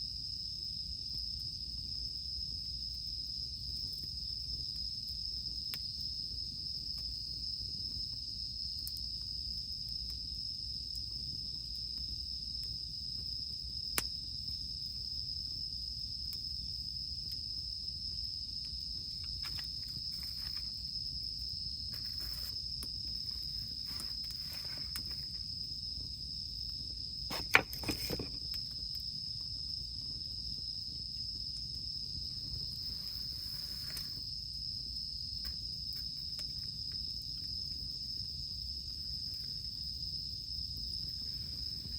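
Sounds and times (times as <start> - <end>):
high-pitched insect chorus: 0.1 - 41.9
campfire popping and crackling: 0.3 - 41.9.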